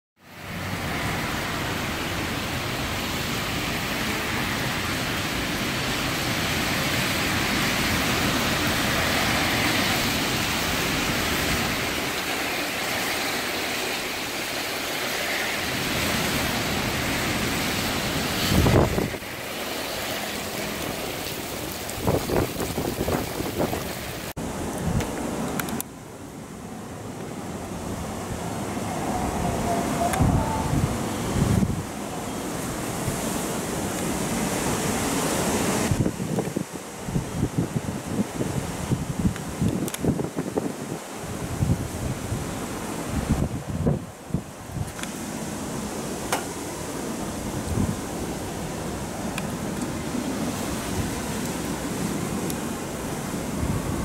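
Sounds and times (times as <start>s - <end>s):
wind and rain rushing: 0.2s - 54.0s.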